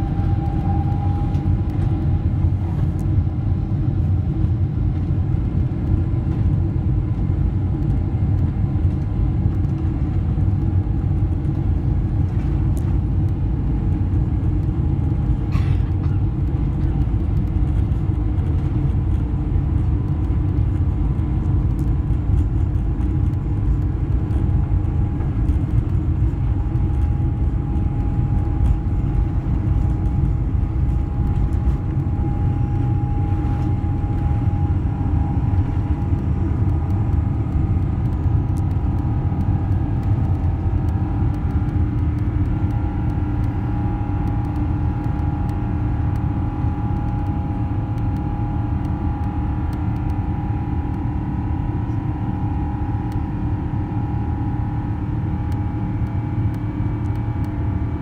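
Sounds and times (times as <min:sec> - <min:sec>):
airplane cabin low rumble: 0:00.0 - 0:58.0
faint steady whine: 0:00.0 - 0:58.0.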